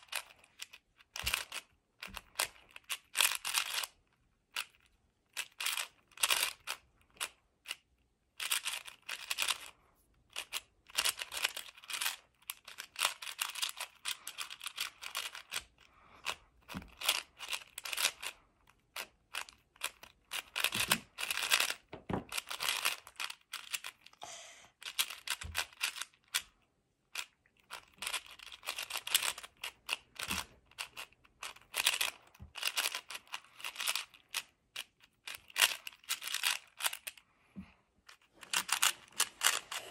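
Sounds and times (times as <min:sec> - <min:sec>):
puzzle cube plastic clacking: 0:00.0 - 0:37.2, 0:38.0 - 0:39.9.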